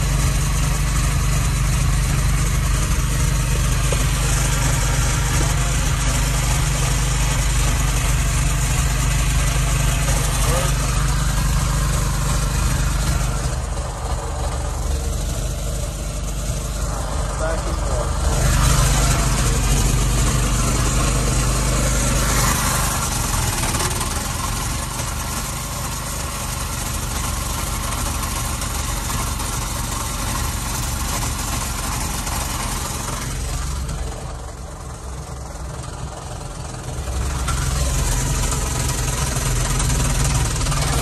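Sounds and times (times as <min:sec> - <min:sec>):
generator engine running: 0:00.0 - 0:41.0.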